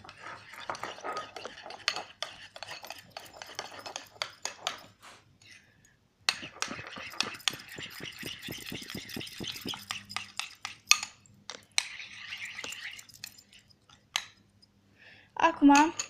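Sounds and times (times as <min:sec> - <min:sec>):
utensil scraping bowl: 0:00.0 - 0:05.7, 0:06.3 - 0:14.4.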